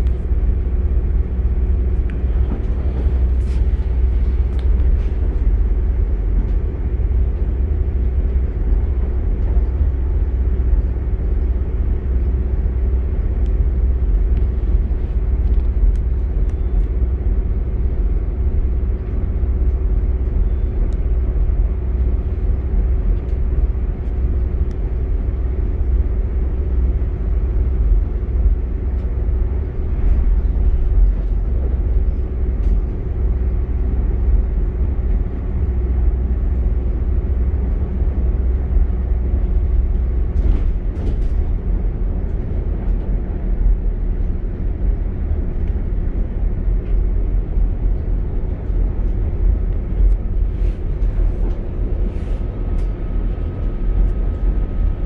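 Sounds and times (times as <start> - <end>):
diesel engine hum: 0.0 - 55.0
train wheels rumbling on rail: 0.0 - 55.0.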